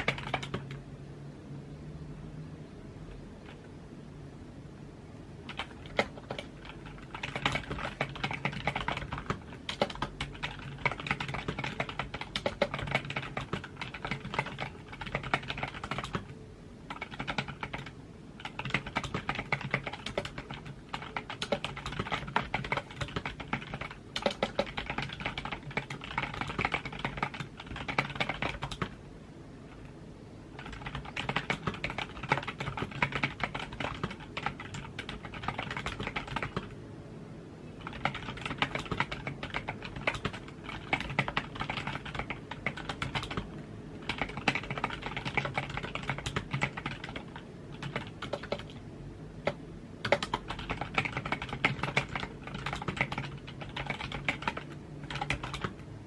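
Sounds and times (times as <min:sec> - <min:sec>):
keyboard typing clicks: 0:00.0 - 0:00.8, 0:05.5 - 0:29.0, 0:30.6 - 0:36.8, 0:37.8 - 0:48.8, 0:49.4 - 0:55.9.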